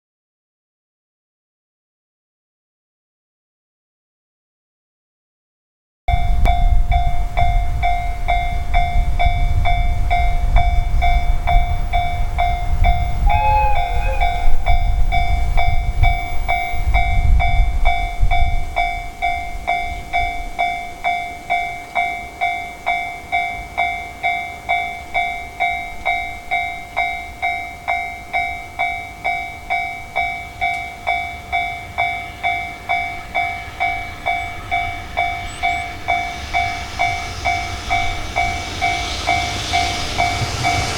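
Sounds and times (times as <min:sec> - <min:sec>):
freight train rumbling past: 0:06.1 - 0:40.9
level crossing warning bell: 0:06.1 - 0:40.9.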